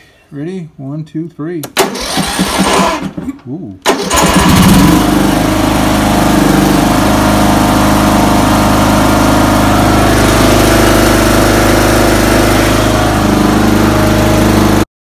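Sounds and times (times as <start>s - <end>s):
riding mower engine running: 1.8s - 14.9s.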